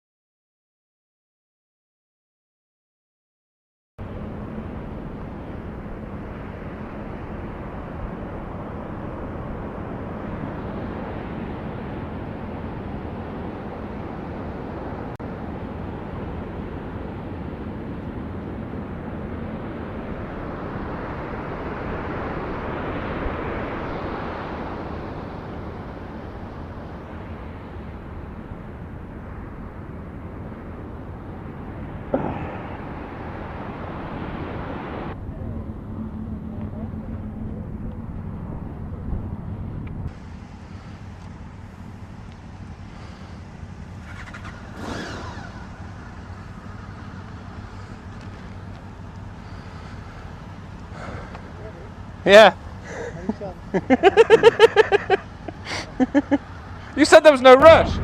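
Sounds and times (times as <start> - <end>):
outdoor background noise: 4.0 - 58.0
vehicle passing: 4.0 - 58.0.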